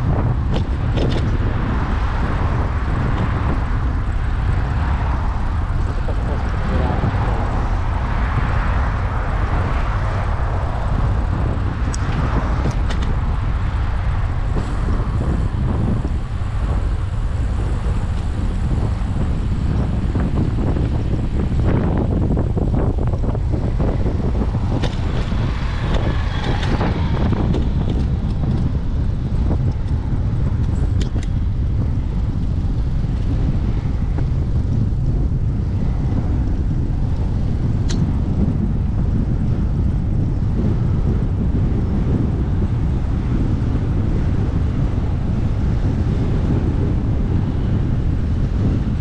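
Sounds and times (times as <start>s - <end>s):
wind rumble on microphone: 0.0s - 49.0s.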